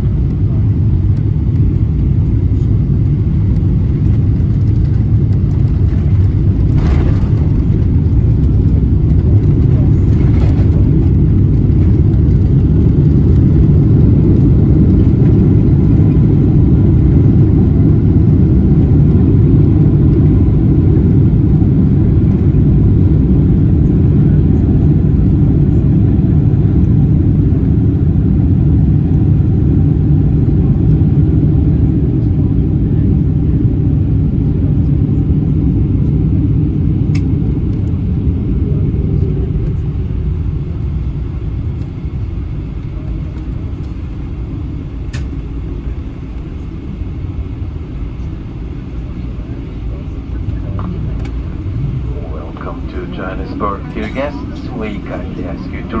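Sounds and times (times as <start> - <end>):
airliner cabin rumble on runway: 0.0 - 56.0.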